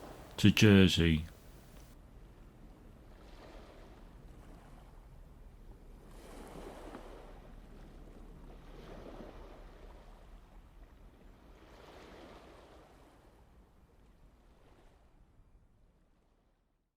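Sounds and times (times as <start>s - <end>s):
wind: 0.0s - 16.8s.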